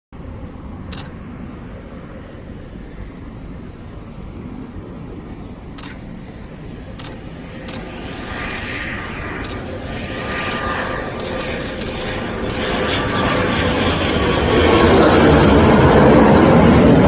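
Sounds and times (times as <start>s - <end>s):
jet engines rumbling and whining: 0.2s - 17.0s.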